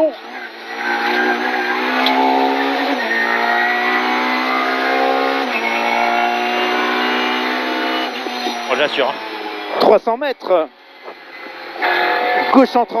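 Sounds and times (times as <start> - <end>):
car engine accelerating and shifting: 0.0 - 13.0.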